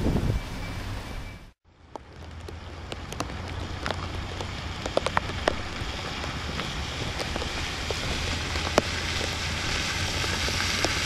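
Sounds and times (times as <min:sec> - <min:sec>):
heavy rain on asphalt: 0:01.7 - 0:11.0
sharp raindrop hits: 0:01.8 - 0:11.0.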